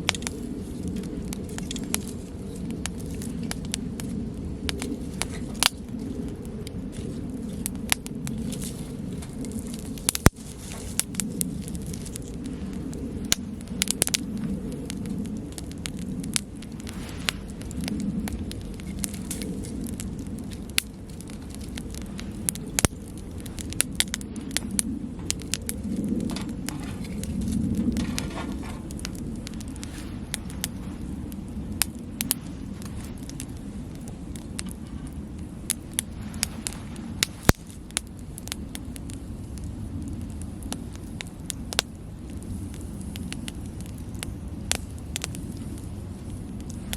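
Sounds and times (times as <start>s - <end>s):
wood campfire crackling: 0.0s - 46.9s.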